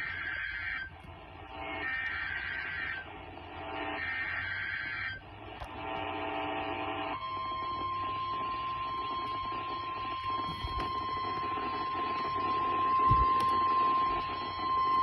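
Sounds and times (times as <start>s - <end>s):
radio hiss and hum: 0.0s - 15.0s
steady warning alarm tone: 0.0s - 15.0s.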